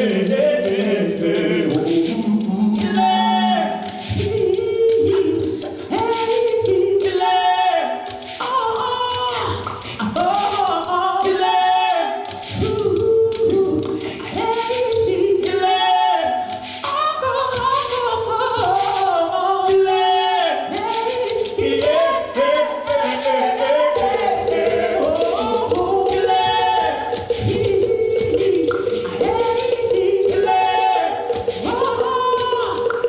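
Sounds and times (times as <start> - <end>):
light percussive strokes: 0.0 - 33.0
voices singing together: 0.0 - 33.0.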